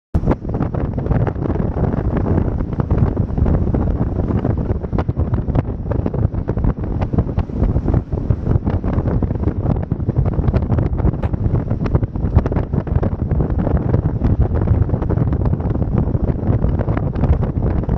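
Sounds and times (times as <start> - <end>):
boat engine drone: 0.2 - 17.9
hull slapping water: 0.2 - 17.9
wind buffeting microphone: 0.2 - 17.9.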